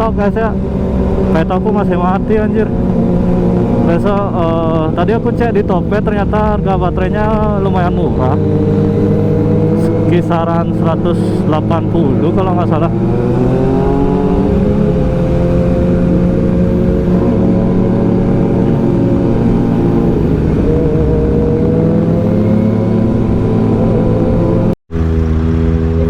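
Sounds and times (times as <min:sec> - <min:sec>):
low rumbling noise: 0:00.0 - 0:26.0
motorcycle engine running: 0:00.0 - 0:26.0.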